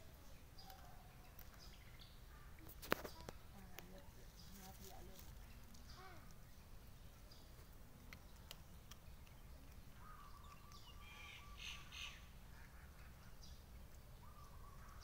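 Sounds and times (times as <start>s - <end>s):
bird calls: 0.0s - 15.0s.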